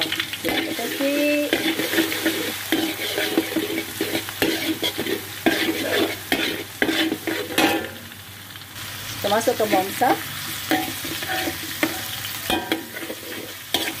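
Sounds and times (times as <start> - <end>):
metal spatula scraping a wok: 0.0 - 8.0, 9.7 - 14.0
light frying sizzle: 0.0 - 14.0.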